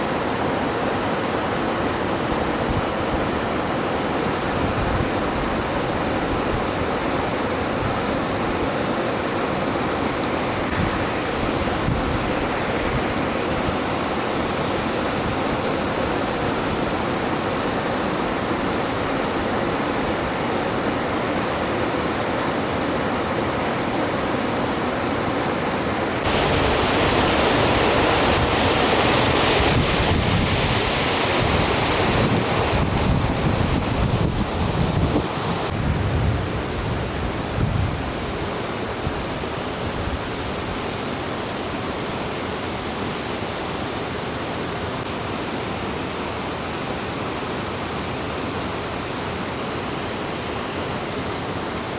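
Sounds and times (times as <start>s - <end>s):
river running over rocks: 0.0s - 35.8s, 36.5s - 51.9s.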